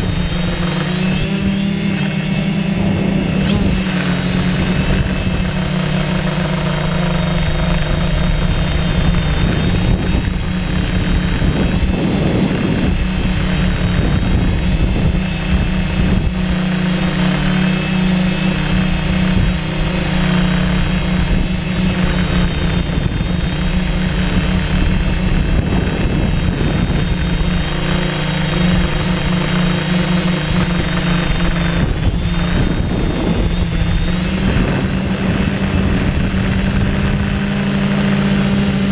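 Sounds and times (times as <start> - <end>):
drone propellers droning: 0.0 - 38.9.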